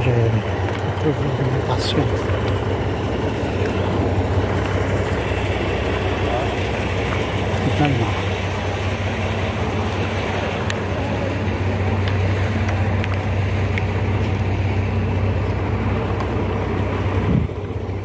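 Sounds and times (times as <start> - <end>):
low street rumble: 0.0 - 18.0
wind buffeting microphone: 0.0 - 18.0.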